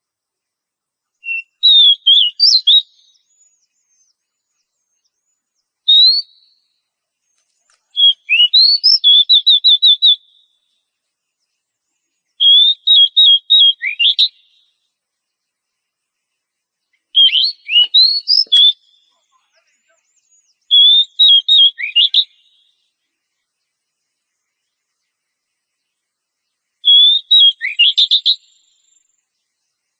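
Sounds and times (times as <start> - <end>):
bird singing whistled notes: 1.0 - 29.9.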